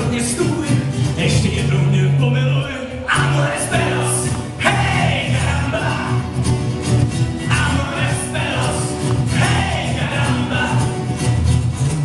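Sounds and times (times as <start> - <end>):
man singing: 0.0 - 6.4, 7.4 - 11.2
strummed acoustic guitar: 0.0 - 12.0.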